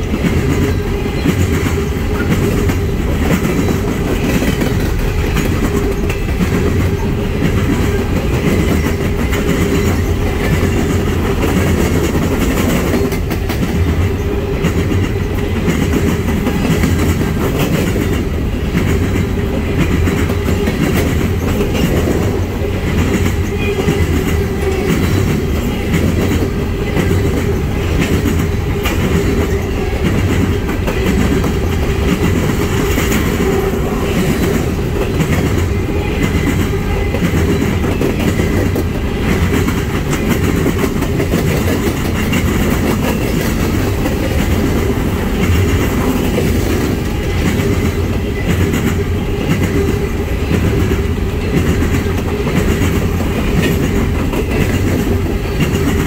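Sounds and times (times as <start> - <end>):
clickety-clack over rail joints: 0.0 - 56.0
steel wheels rumbling on rail: 0.0 - 56.0.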